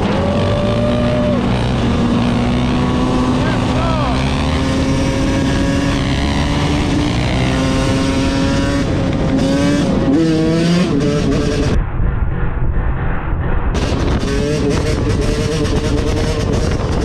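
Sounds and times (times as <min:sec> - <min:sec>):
motorbike engines revving: 0:00.0 - 0:11.8, 0:13.8 - 0:17.0.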